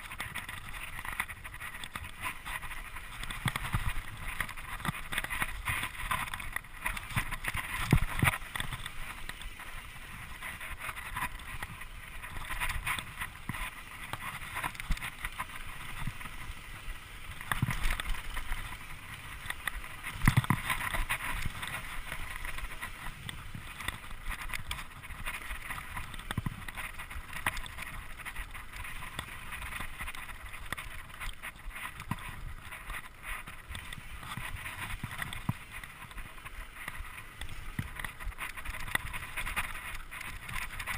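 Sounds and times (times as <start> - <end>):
bike tyres rattling over dirt: 0.0 - 40.9.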